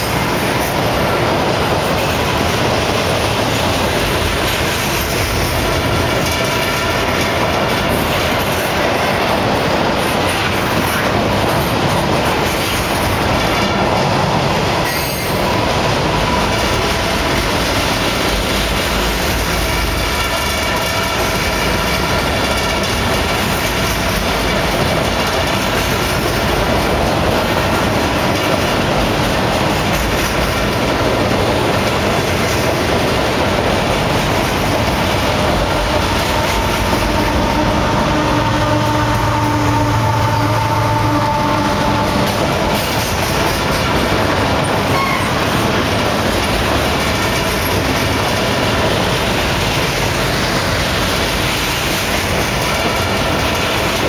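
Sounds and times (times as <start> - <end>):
rail joints clickety-clack: 0.0 - 54.0
steel wheels rumbling on rail: 0.0 - 54.0.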